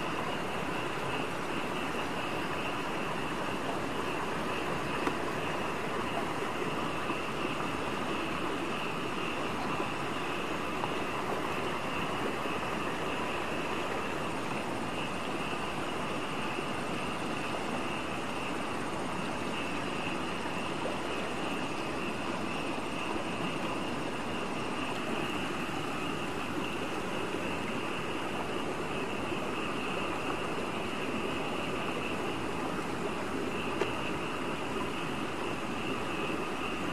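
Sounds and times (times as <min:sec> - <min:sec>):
constant hiss: 0:00.0 - 0:36.9
high insect trill: 0:00.0 - 0:36.9
insects buzzing: 0:00.0 - 0:36.9.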